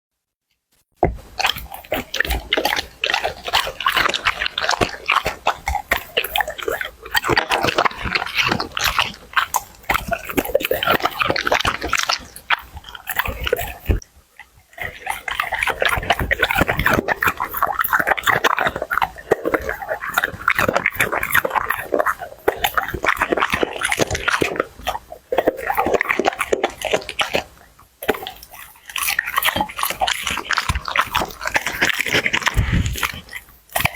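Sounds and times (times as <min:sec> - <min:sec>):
dog chewing and crunching food: 0:01.0 - 0:33.9.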